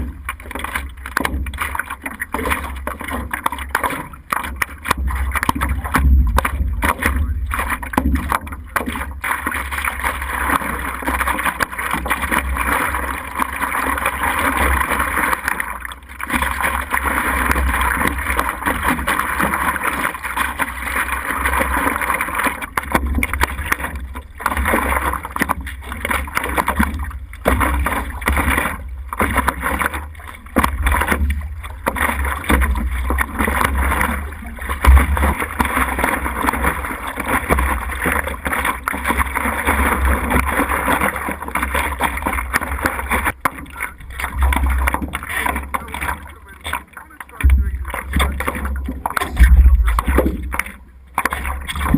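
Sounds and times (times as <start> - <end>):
steady rushing noise: 0.0 - 51.9.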